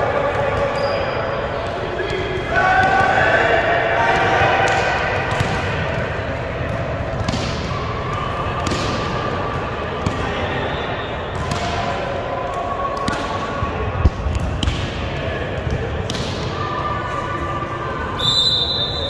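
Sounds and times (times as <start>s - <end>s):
players and spectators voices: 0.0s - 19.0s.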